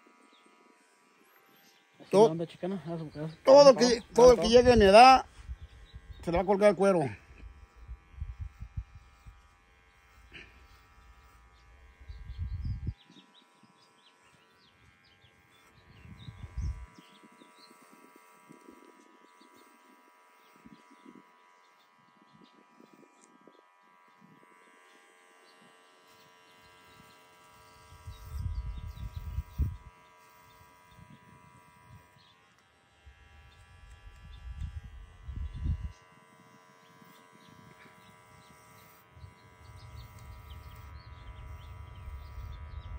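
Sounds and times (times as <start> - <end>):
electric hair clippers buzzing: 0.0 - 42.9.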